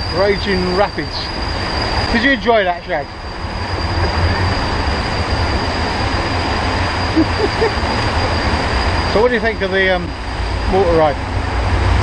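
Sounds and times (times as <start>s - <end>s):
ride boat rumbling: 0.0s - 12.0s.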